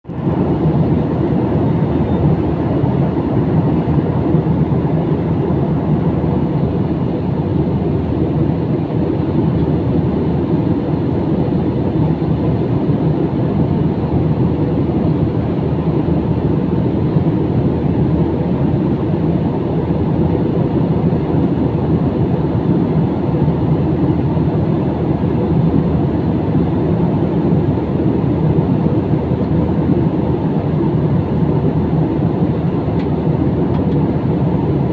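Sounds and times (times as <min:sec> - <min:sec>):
jet airliner cabin noise: 0:00.1 - 0:34.9.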